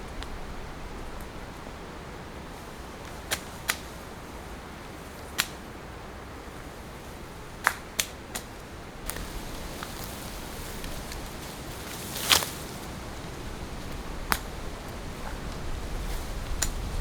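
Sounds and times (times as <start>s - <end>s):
rain hissing on a tent: 0.0s - 17.0s.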